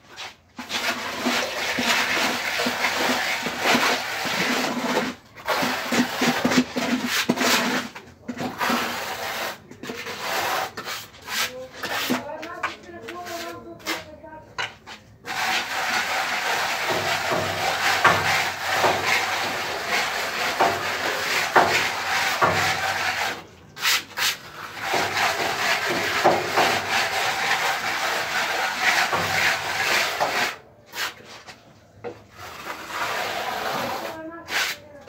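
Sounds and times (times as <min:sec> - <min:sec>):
plastering tool scraping wall: 0:00.0 - 0:35.0.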